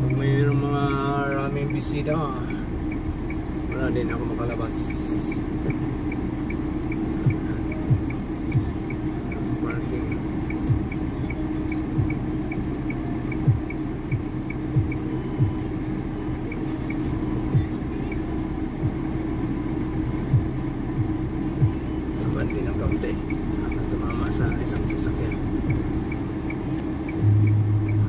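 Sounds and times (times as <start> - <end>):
irregular low thumps: 0.0 - 28.0
van engine idling: 0.0 - 28.0.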